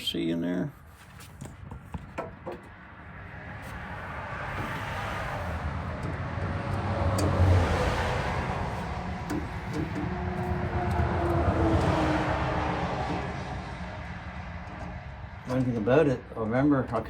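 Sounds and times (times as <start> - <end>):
road vehicles passing by: 0.8 - 17.0.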